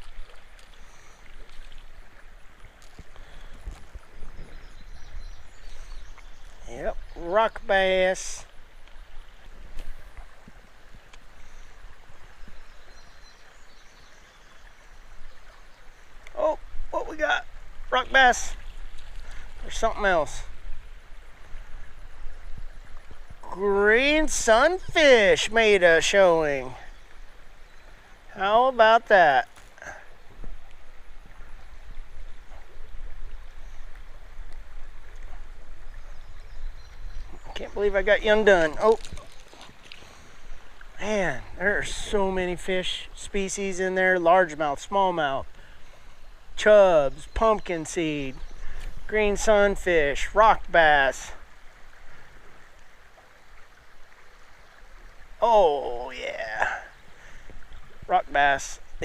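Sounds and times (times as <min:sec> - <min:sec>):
creek water running: 0:00.0 - 0:59.0.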